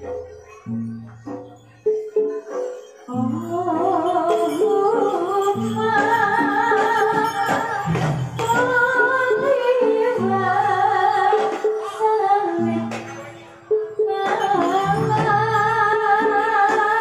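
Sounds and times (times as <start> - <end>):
woman singing ornamented melody: 3.0 - 17.0.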